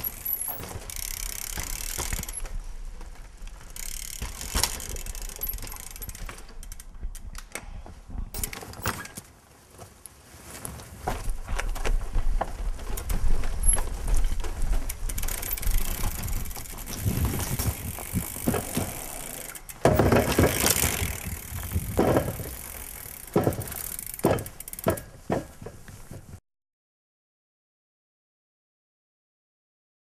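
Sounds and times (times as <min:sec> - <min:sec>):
bike knocks and rattles: 0:00.0 - 0:26.4
mountain bike tyre noise: 0:00.0 - 0:26.4.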